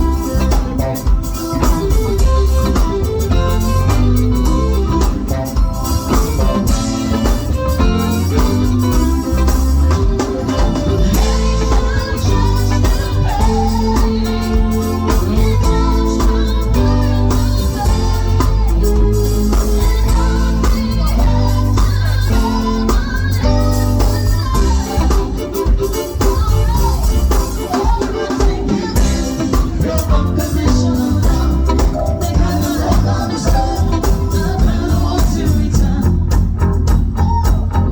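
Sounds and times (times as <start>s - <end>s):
band music with strong bass: 0.0s - 37.9s.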